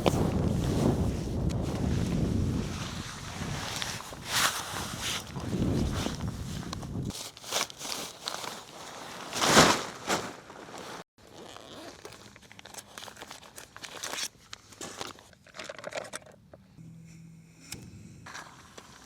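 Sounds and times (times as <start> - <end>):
crinkling and rustling handling: 0.0 - 16.8.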